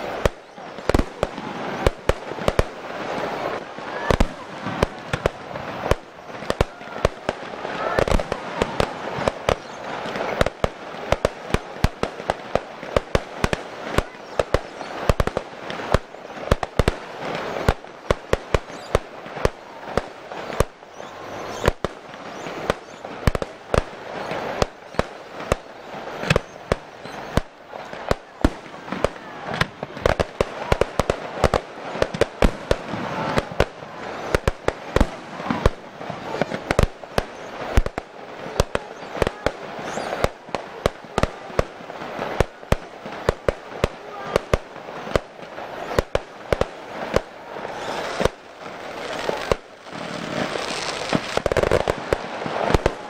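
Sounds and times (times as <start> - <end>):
continuous noisy wash: 0.0 - 53.0.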